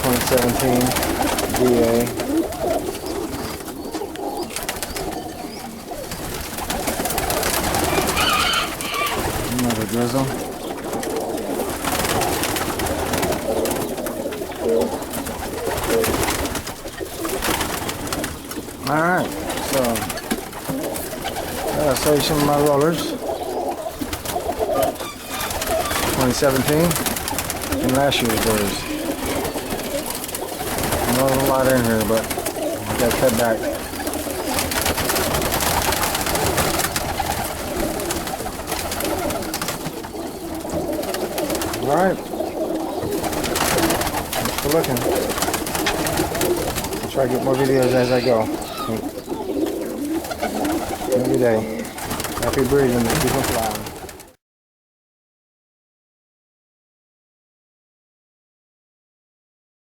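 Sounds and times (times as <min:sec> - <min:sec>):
birds clicking and rustling: 0:00.0 - 0:54.3
pigeons cooing: 0:00.0 - 0:54.4.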